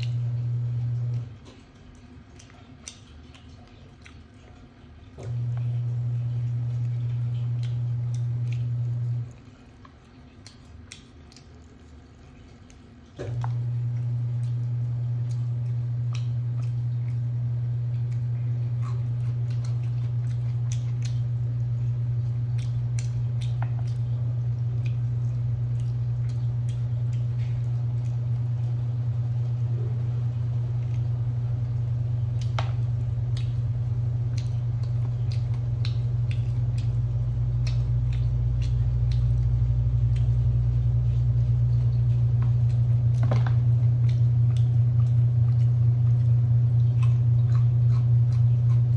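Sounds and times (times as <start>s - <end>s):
chewing sounds: 0.0s - 48.9s
steady low hum: 0.0s - 48.9s.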